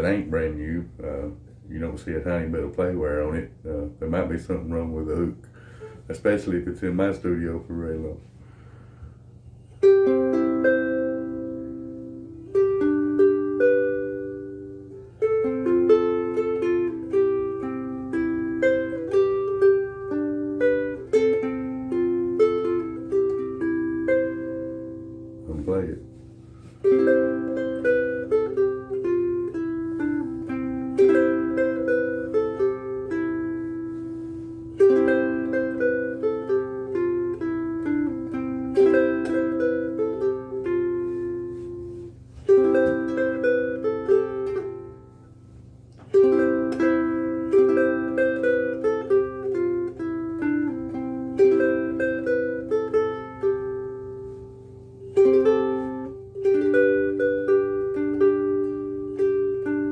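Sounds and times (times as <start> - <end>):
ukulele fingerpicked: 0.0 - 8.3, 9.5 - 59.9.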